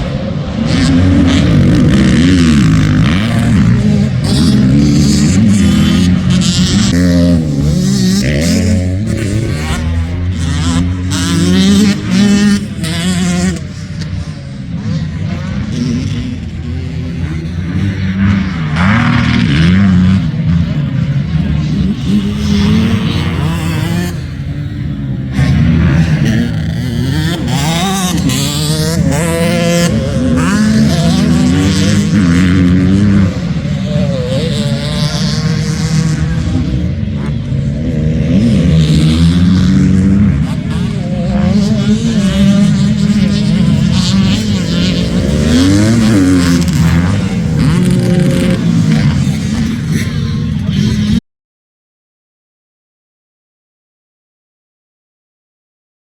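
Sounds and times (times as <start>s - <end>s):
dirt bike engines revving: 0.0s - 51.2s.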